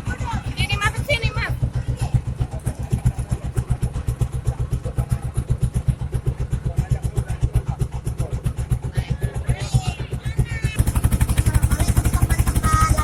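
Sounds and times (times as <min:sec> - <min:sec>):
boat engine thumping: 0:00.0 - 0:13.0.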